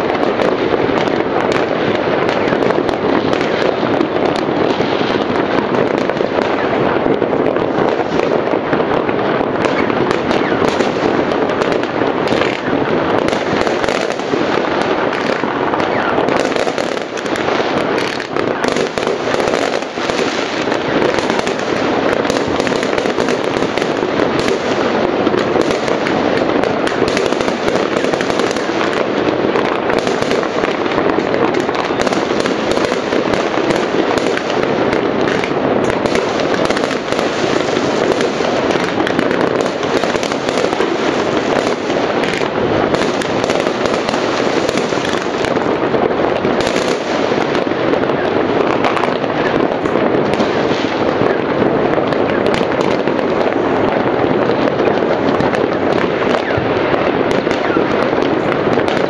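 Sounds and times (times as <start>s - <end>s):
fireworks and firecrackers banging: 0.0s - 59.0s.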